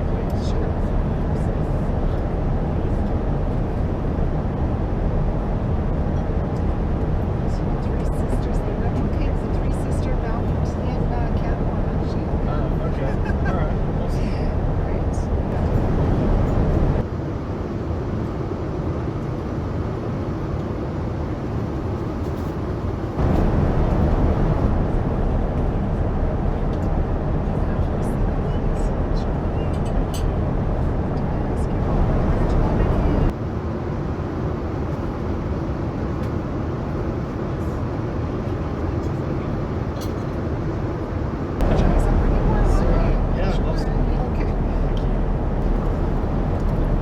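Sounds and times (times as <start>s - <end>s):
airliner cabin noise: 0.0s - 47.0s.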